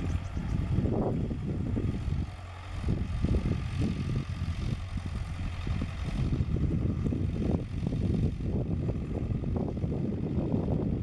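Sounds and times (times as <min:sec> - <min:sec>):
tractor diesel engine pulsing: 0:00.0 - 0:11.0.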